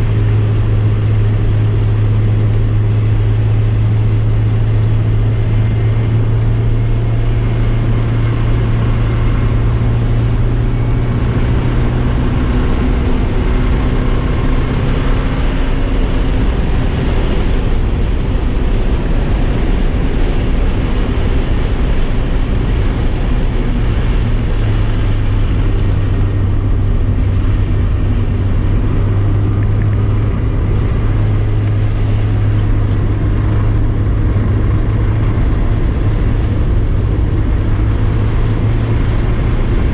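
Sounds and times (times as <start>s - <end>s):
car engine running hard: 0.0s - 39.9s
road and wind noise: 0.0s - 39.9s.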